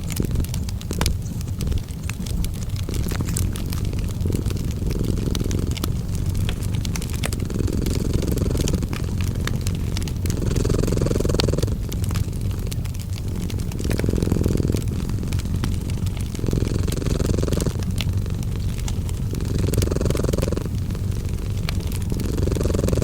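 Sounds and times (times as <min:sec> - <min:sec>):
cat purring: 0:00.0 - 0:23.0
wood fire crackling: 0:00.0 - 0:23.0.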